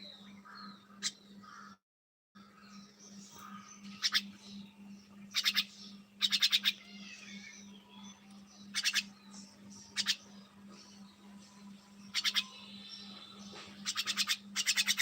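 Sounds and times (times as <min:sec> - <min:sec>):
pet birds chirping: 0:00.0 - 0:01.8, 0:02.4 - 0:15.0.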